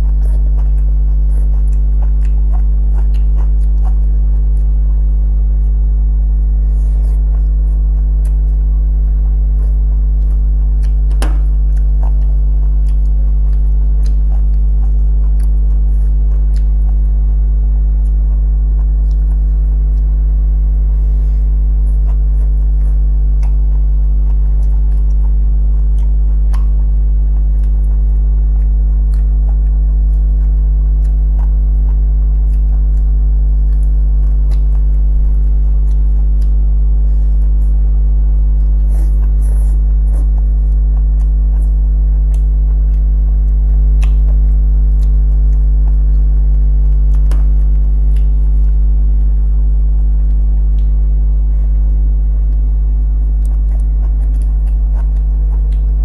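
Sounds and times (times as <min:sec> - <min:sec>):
faint chewing: 0:00.0 - 0:56.0
loud steady low hum: 0:00.0 - 0:56.0.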